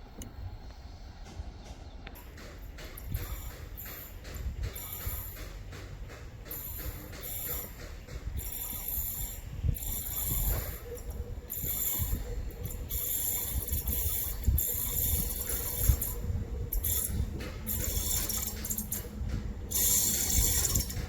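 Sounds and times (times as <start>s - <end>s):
train wheels clattering on track: 0.0s - 21.0s.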